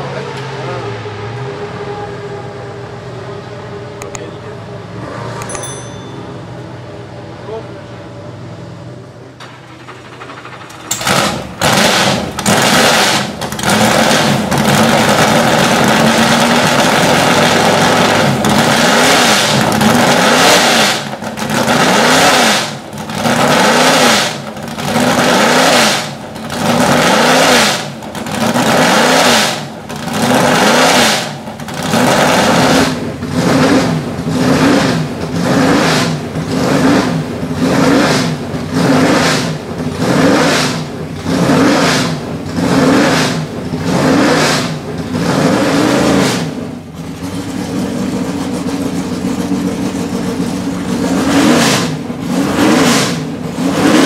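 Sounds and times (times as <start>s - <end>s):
racing engine revving: 9.8s - 54.0s.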